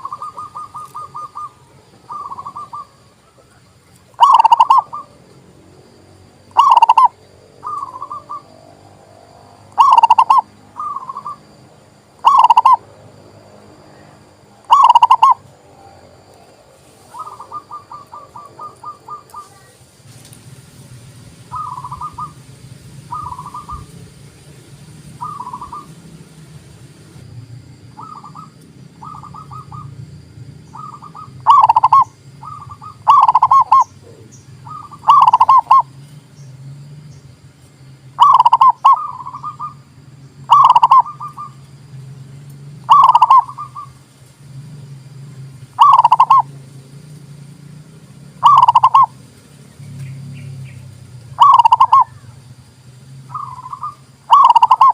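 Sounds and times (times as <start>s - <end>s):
doves cooing: 0.0s - 5.3s, 6.5s - 13.1s, 13.8s - 19.8s, 21.5s - 26.3s, 27.2s - 37.1s, 38.2s - 52.4s, 53.2s - 54.9s
steady low hum: 0.0s - 54.9s.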